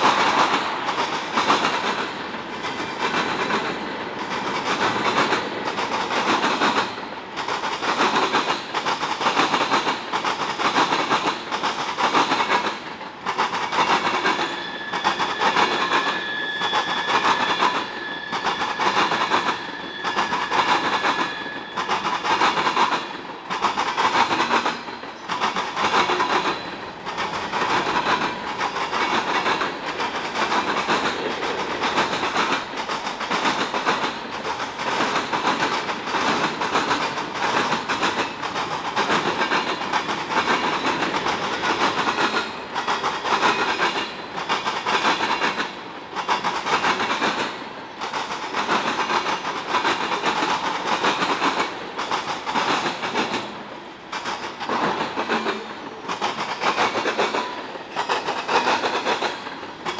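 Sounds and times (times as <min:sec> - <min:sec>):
train wheels clacking over crossing: 0:00.0 - 0:59.9.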